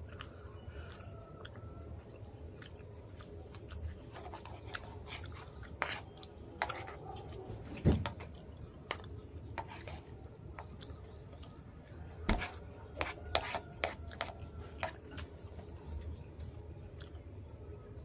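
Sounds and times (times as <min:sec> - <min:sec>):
chewing: 0:00.0 - 0:17.4.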